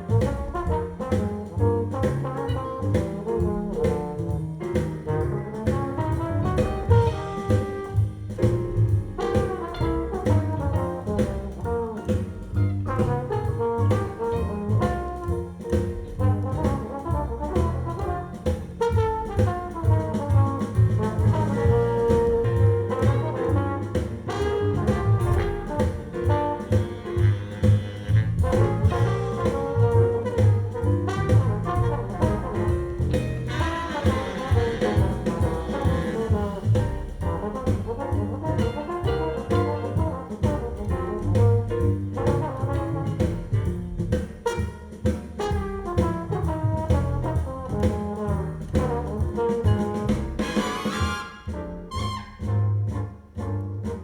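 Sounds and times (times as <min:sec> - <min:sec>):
jazz-blues music over loudspeakers: 0:00.0 - 0:54.0.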